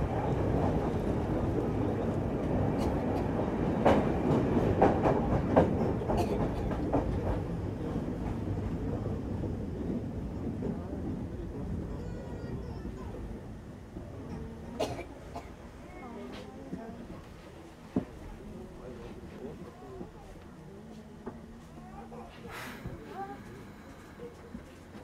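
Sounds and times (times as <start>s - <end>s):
rumble of wheels on rails: 0.0s - 25.0s.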